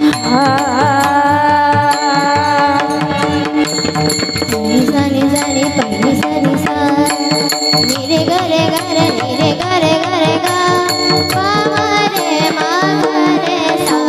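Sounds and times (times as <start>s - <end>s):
girl singing: 0.0s - 3.7s, 4.5s - 14.0s.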